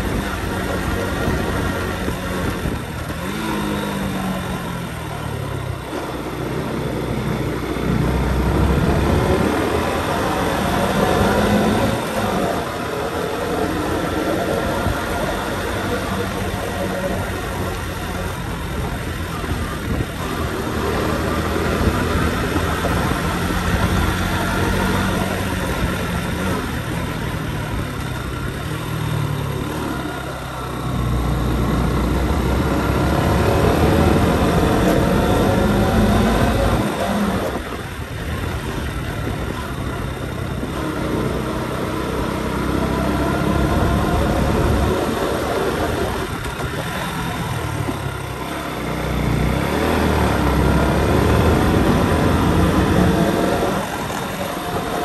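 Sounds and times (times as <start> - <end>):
motorbike engine running: 0.0 - 55.0
wind and road noise: 0.0 - 55.0.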